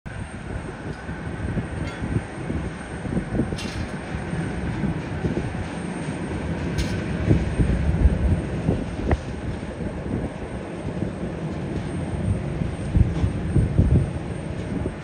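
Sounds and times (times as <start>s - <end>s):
low airport apron rumble: 0.1s - 15.0s.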